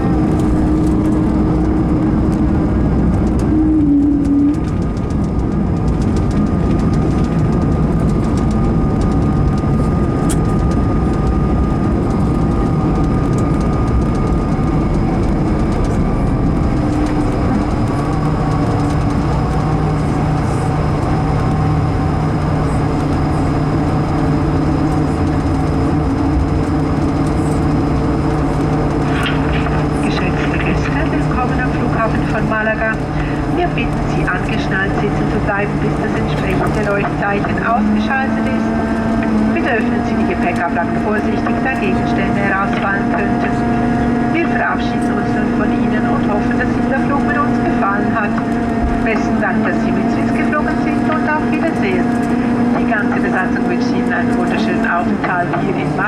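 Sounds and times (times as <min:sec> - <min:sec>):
jet engines whining: 0:00.0 - 0:56.0
low hum: 0:00.0 - 0:56.0
wheels rumbling: 0:00.0 - 0:56.0.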